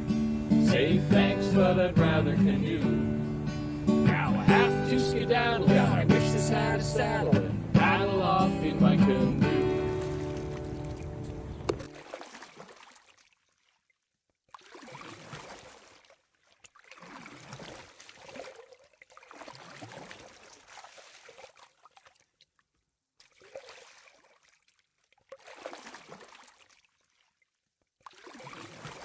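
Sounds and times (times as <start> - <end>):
water sloshing and lapping: 3.3 - 29.0.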